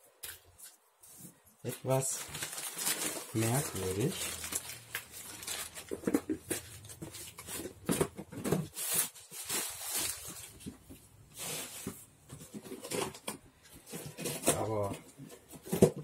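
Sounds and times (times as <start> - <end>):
cardboard and paper rustling: 1.0 - 16.0.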